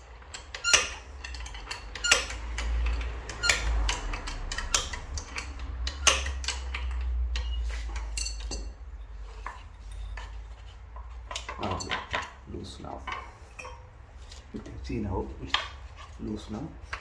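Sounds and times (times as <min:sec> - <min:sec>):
wrench clinking and scraping metal: 0:00.0 - 0:14.5.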